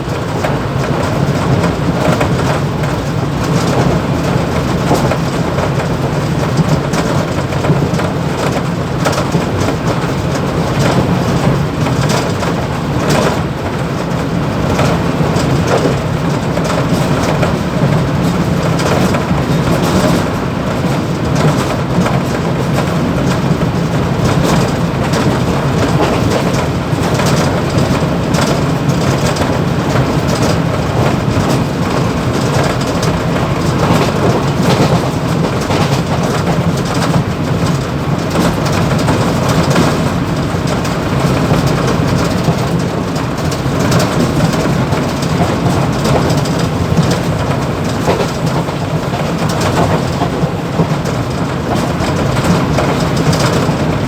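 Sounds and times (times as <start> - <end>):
cab rattling: 0.0 - 54.0
train wheels rumbling on rail: 0.0 - 54.0.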